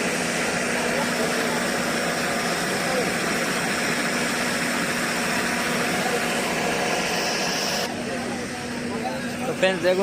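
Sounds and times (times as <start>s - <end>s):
crowd chatter: 0.0s - 10.0s
diesel generator droning: 0.0s - 10.0s.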